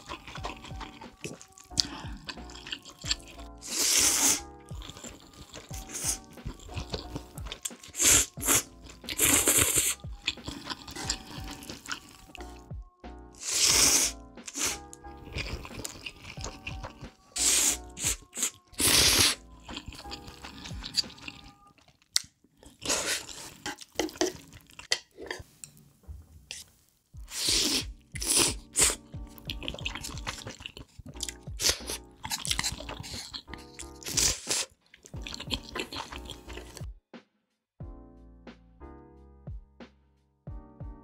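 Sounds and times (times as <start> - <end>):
wet slurps and chewing: 0.0 - 12.7, 13.4 - 25.5, 26.5 - 36.9
background music: 0.0 - 41.0.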